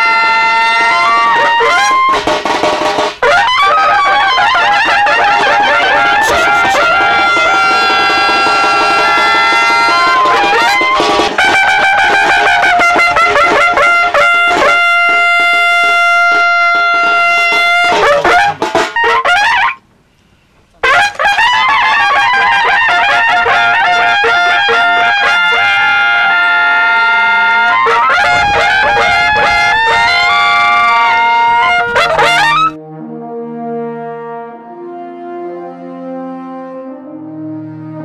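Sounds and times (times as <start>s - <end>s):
brass melody instrumental music: 0.0s - 19.8s, 20.8s - 38.0s.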